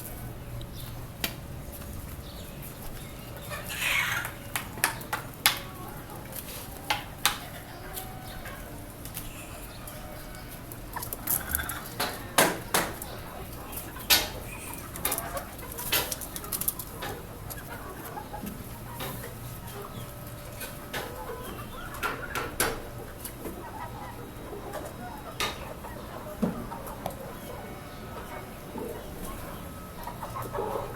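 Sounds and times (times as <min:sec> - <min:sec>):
hens clucking: 0:00.0 - 0:30.9.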